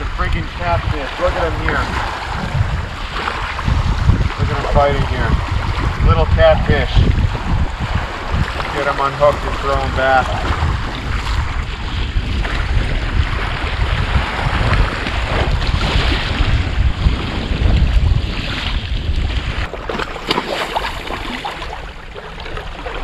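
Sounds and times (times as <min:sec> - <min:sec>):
waves washing on beach: 0:00.0 - 0:23.0
wind buffeting microphone: 0:00.0 - 0:23.0.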